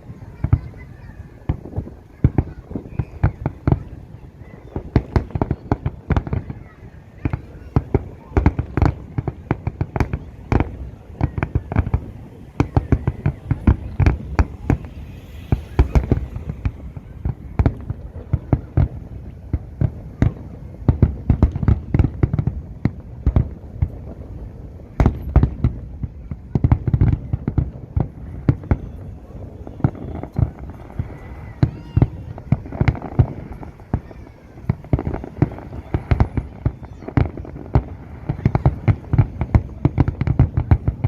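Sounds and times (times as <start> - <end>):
fireworks bursting and crackling: 0.0 - 41.0
fireworks rumble: 0.0 - 41.0.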